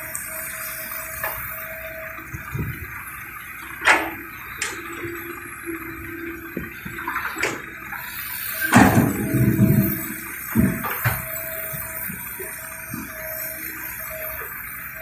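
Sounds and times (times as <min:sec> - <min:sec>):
excavator engine hum: 0:00.0 - 0:15.0.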